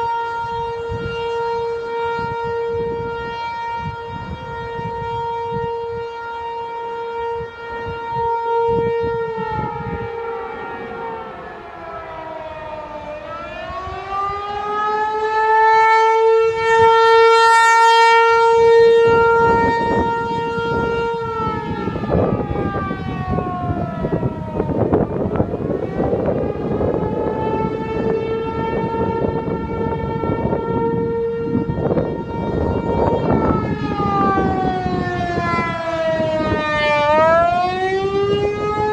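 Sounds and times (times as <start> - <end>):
warning siren rising and falling: 0.0 - 38.9.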